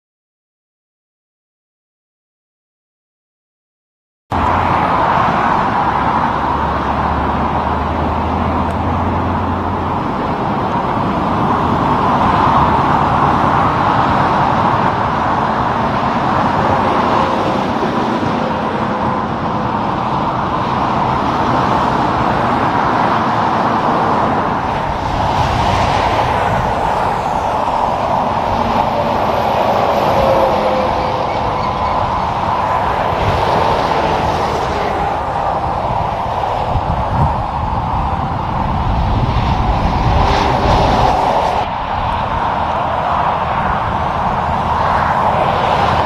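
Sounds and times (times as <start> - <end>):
highway traffic passing: 4.3 - 46.0.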